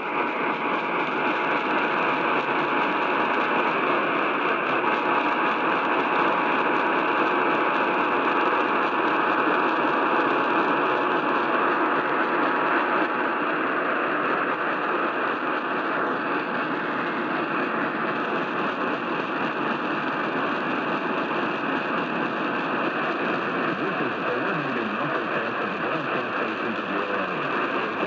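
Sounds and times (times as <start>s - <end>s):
faint steady whine: 0.0s - 28.0s
radio static hiss: 0.0s - 28.0s.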